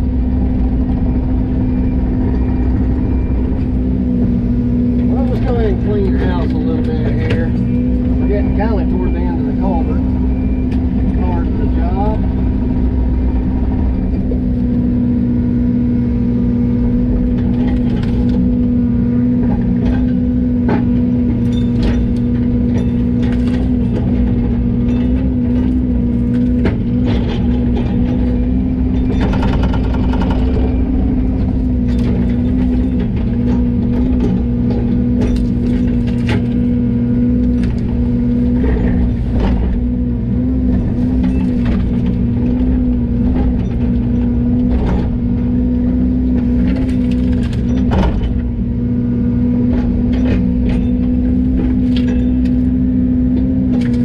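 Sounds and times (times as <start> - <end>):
machinery clicks and clanks: 0.0 - 15.2, 16.9 - 48.8, 49.6 - 54.0
diesel engine running: 0.0 - 54.0.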